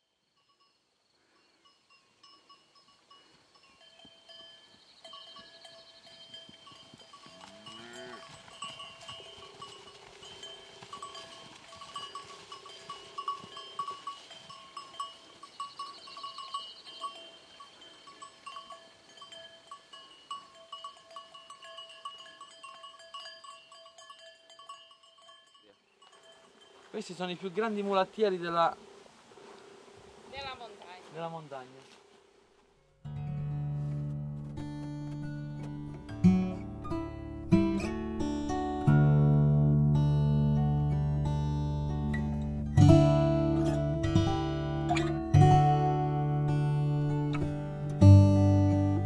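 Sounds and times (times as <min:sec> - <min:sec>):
livestock bells clinking: 0:00.0 - 0:28.4, 0:34.6 - 0:49.0.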